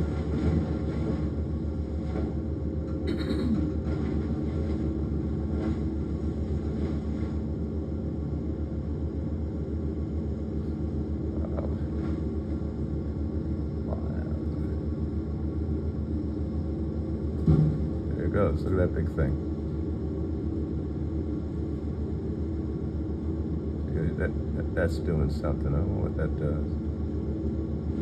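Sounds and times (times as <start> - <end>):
wood chipper engine droning: 0.0 - 28.0.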